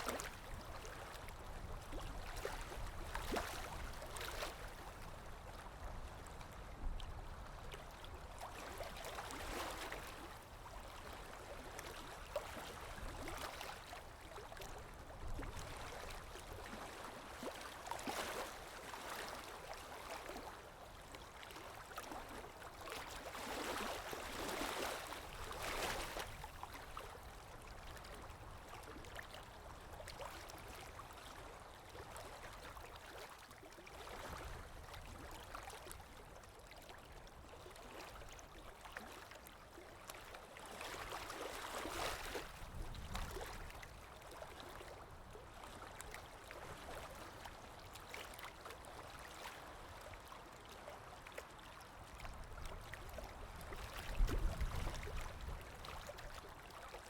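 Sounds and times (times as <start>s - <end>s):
water lapping: 0.0s - 57.0s.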